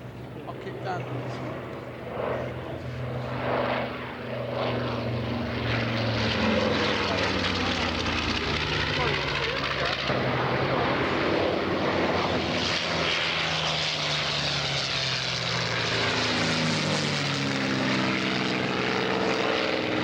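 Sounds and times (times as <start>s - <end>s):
propeller planes flying past: 0.0s - 20.0s.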